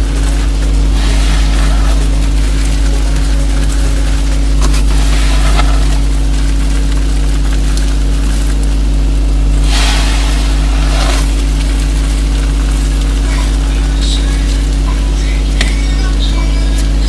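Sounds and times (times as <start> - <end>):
hiss: 0.0 - 8.8, 9.5 - 16.2
ambient music drone: 0.0 - 17.0.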